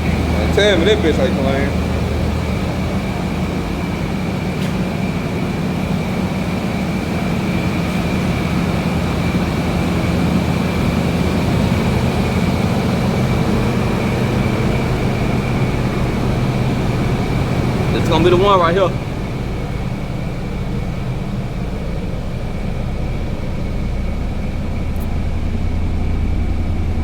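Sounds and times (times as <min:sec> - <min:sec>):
car engine idling: 0:00.0 - 0:27.0
high-pitched whine: 0:00.0 - 0:27.0.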